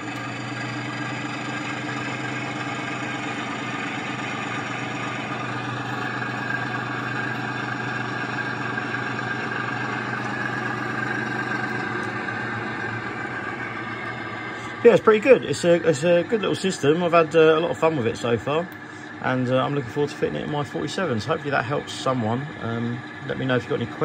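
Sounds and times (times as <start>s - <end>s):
high whine: 0.0s - 24.0s
locomotive engine from loudspeaker: 0.0s - 24.0s.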